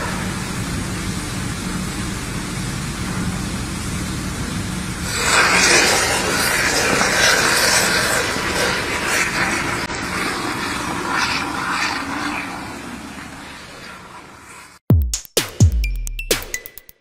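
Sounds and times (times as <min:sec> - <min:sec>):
molten steel pouring: 0:00.0 - 0:14.8.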